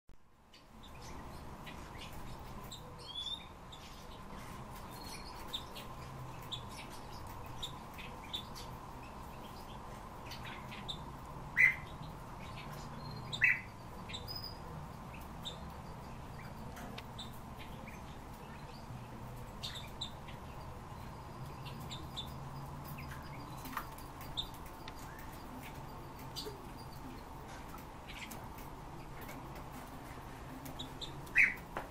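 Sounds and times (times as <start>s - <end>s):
steady low hum: 0.2s - 31.9s
finches chirping: 0.5s - 31.8s.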